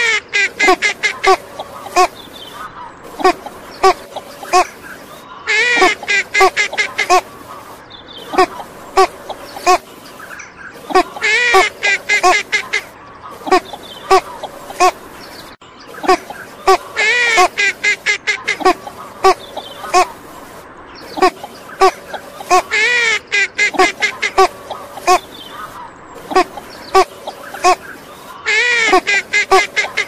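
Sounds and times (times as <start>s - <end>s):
duck quacking: 0.0s - 9.8s, 10.8s - 15.0s, 16.0s - 20.2s, 21.1s - 30.0s.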